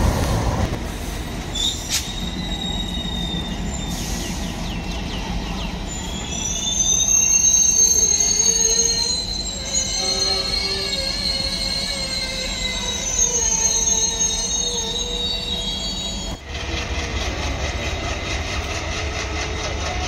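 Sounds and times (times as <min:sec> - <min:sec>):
train rolling rumble and clatter: 0:00.0 - 0:20.0
train wheels squealing: 0:01.3 - 0:20.0.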